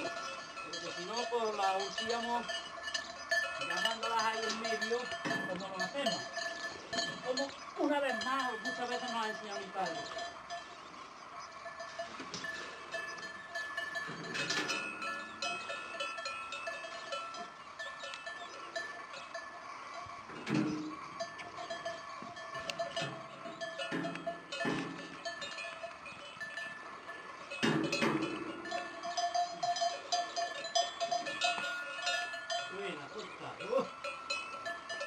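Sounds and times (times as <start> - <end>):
cowbells clanking: 0.0 - 35.0.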